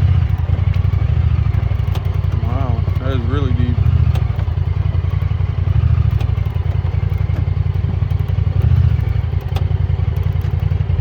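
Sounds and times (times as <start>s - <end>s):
utility vehicle engine drone: 0.0s - 11.0s.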